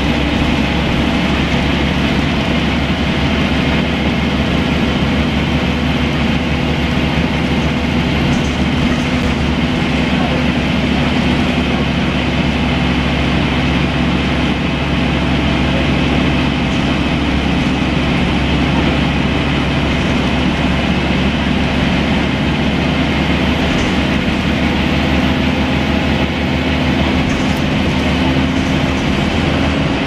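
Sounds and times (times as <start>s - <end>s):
bus diesel engine running: 0.0s - 30.0s
road noise: 0.0s - 30.0s.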